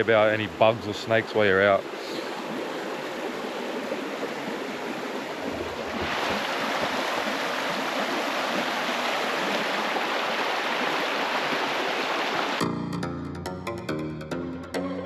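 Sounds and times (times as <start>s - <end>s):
rushing water: 0.0s - 12.6s.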